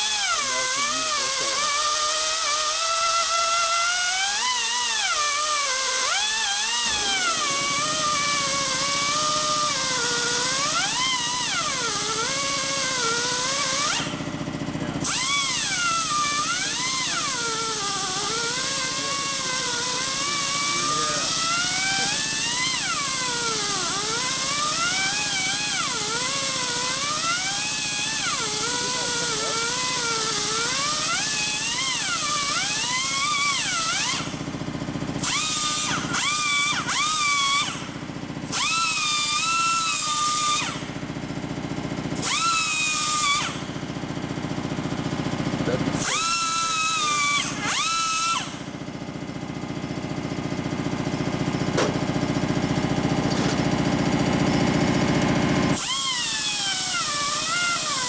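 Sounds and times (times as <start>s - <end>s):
pneumatic die grinder whining: 0.0s - 58.0s.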